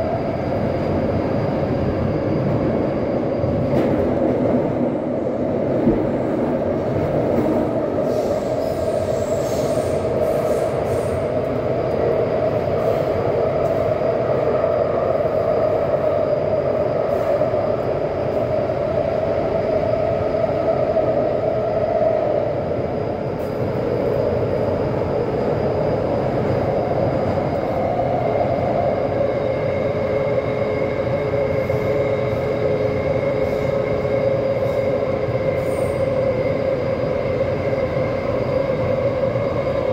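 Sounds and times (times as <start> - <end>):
train wheels rumbling on rails: 0.0 - 39.9
train whine: 0.0 - 39.9.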